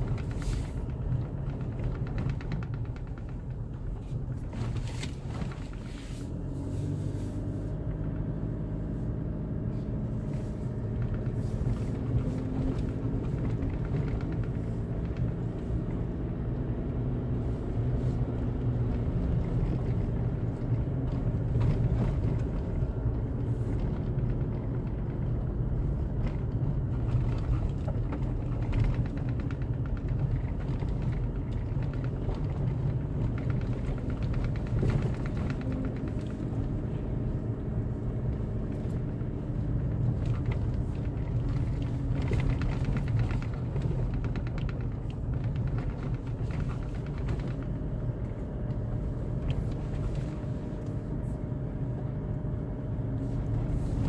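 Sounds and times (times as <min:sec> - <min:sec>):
light knocks and rattles: 0:00.0 - 0:06.2, 0:10.2 - 0:16.5, 0:17.7 - 0:51.3
car engine and road rumble: 0:00.0 - 0:54.0.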